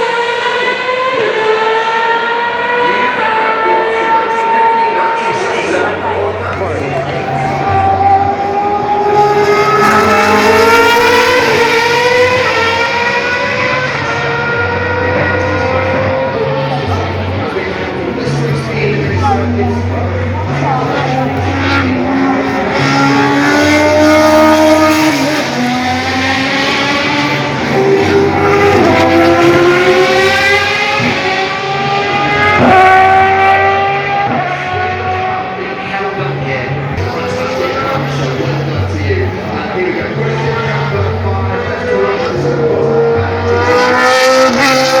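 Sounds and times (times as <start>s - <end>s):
racing car engine revving: 0.0s - 45.0s.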